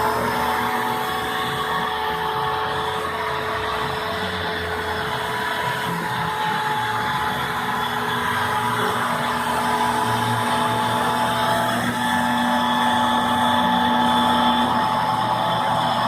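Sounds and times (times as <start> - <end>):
machine hum with motor tones: 0.0 - 16.0.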